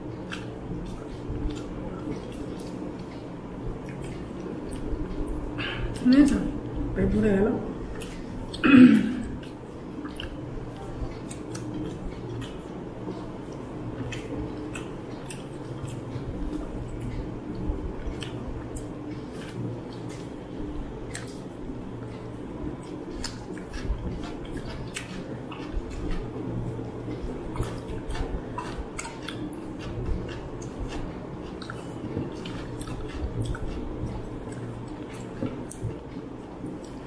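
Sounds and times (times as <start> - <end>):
fingers mixing food on plates: 0.0 - 8.6, 9.2 - 37.0
steady low hum: 0.0 - 37.0
wet chewing smacks: 0.1 - 6.4, 9.2 - 20.4, 21.0 - 22.2, 22.8 - 37.0.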